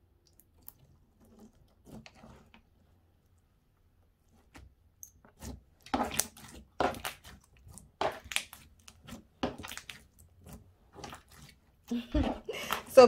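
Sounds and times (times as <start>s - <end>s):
wet squelches of slime: 0.0s - 13.0s.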